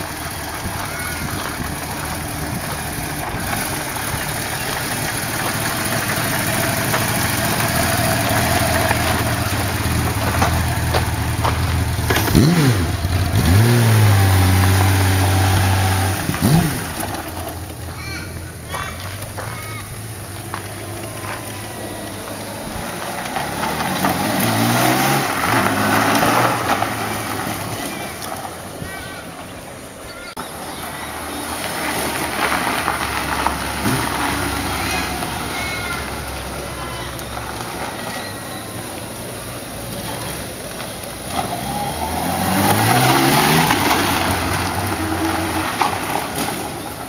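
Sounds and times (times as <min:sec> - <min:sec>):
motorcycle riding by: 0:00.0 - 0:28.3, 0:30.9 - 0:47.0.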